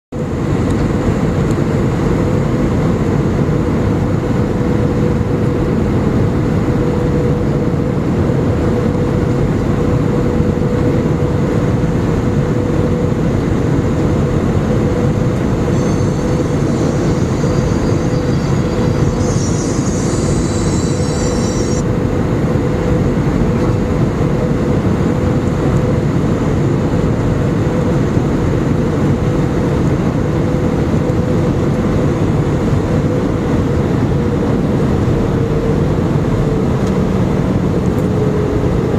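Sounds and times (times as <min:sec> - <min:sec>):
airliner cabin engine rumble: 0:00.1 - 0:38.9.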